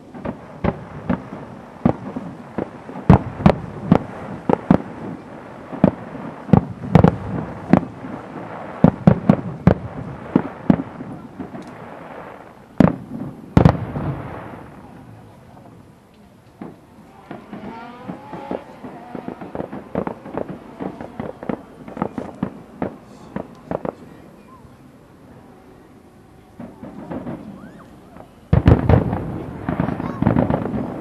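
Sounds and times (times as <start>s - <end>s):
fireworks bursting with sharp bangs: 0.0s - 31.0s.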